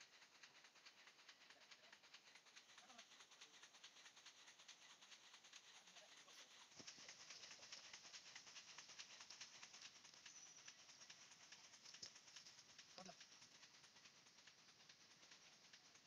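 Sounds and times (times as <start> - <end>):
fast high-pitched ticking: 0.0 - 16.0.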